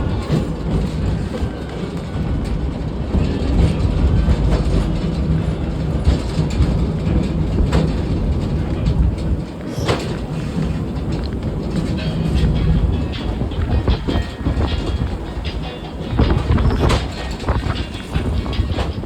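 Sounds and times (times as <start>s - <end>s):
train rumbling along track: 0.0s - 19.0s
wheels clicking over rail joints: 0.0s - 19.0s.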